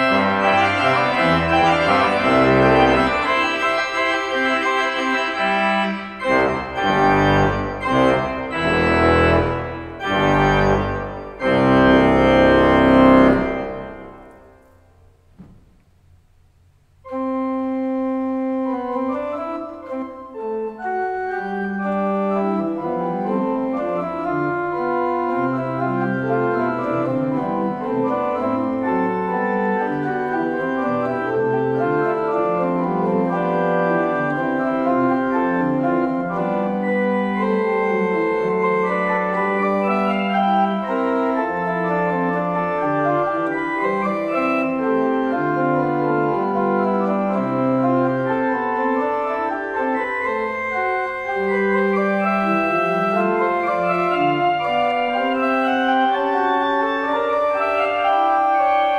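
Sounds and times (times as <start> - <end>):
pipe organ playing: 0.0 - 15.4, 17.0 - 58.9.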